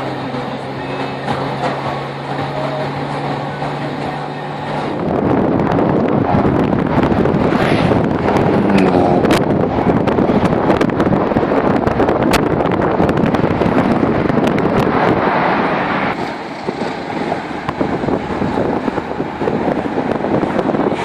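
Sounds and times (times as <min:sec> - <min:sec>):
car road noise: 0:00.0 - 0:21.0
wind buffeting microphone: 0:00.0 - 0:21.0.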